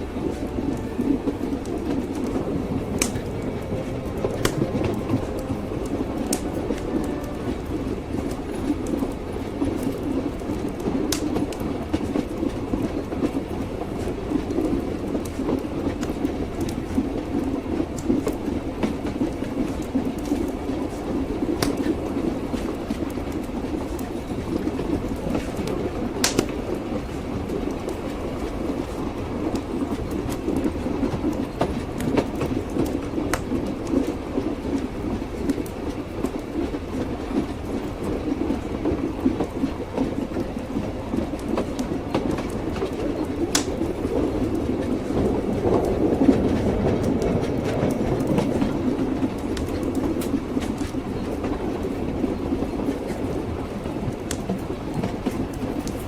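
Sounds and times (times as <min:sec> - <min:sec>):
train wheels clacking on rails: 0:00.0 - 0:56.0.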